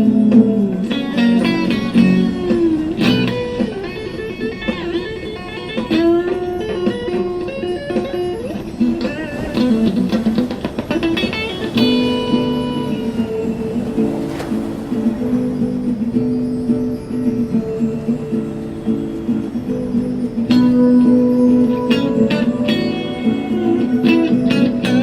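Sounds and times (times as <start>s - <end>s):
electric guitar lead melody: 0.0s - 25.0s
held backing chords: 0.0s - 25.0s.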